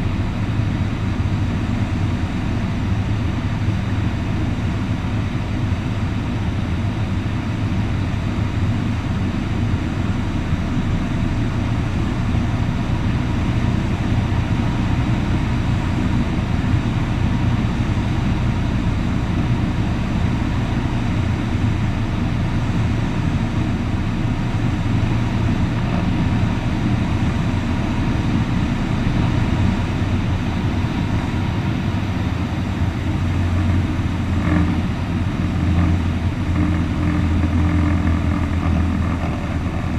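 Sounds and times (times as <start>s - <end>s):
small plane engine drone: 0.0s - 39.9s.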